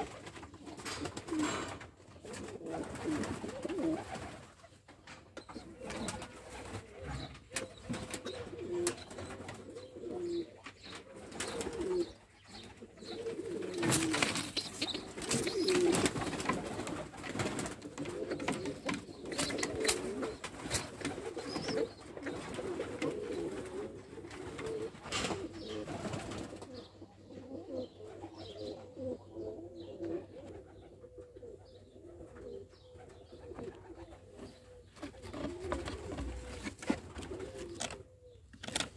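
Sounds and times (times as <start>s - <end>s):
pigeons cooing: 0.0s - 4.8s, 5.4s - 38.9s.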